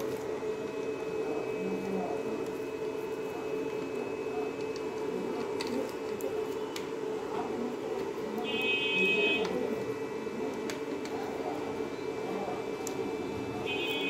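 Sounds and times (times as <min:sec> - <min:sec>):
electrical hum and whine: 0:00.0 - 0:14.0.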